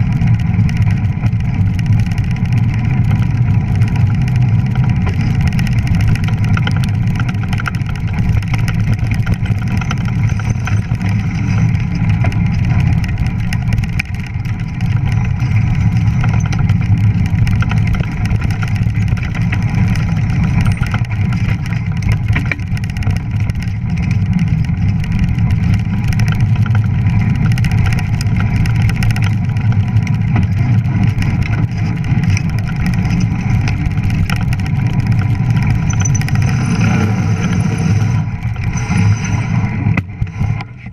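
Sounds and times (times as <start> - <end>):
fat tyres rolling on snow: 0.0 - 40.9
wind rushing over microphone: 0.0 - 40.9.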